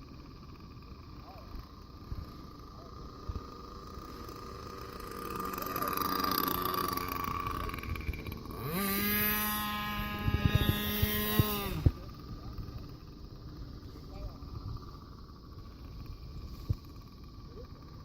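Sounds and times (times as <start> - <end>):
faint motor hum: 0.0 - 18.0
model airplane motor whine: 0.0 - 18.0.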